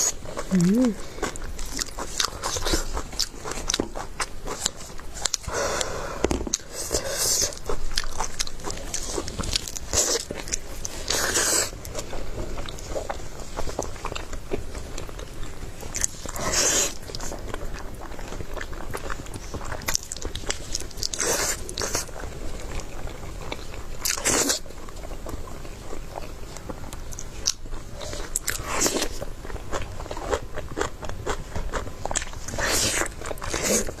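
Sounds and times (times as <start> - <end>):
person biting and chewing: 0.0 - 5.9, 6.5 - 25.4, 26.9 - 34.0.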